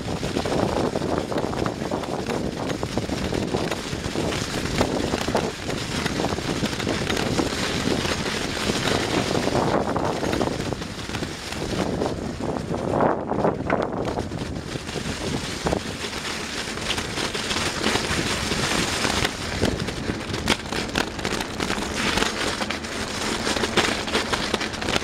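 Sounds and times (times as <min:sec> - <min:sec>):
bicycle tyre noise: 0:00.0 - 0:25.0
bike rattling and clicking: 0:00.0 - 0:25.0
wind rushing over microphone: 0:00.0 - 0:25.0.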